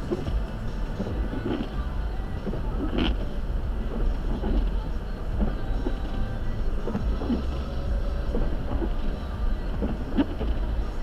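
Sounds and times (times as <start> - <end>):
car driving on snowy road: 0.0 - 11.0.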